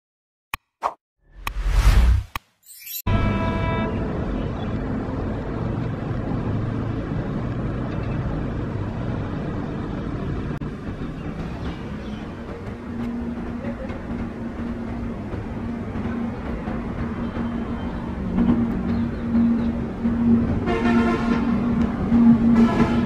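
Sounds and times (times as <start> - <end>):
engine hum: 3.1 - 23.0
locomotive rumble: 3.1 - 23.0.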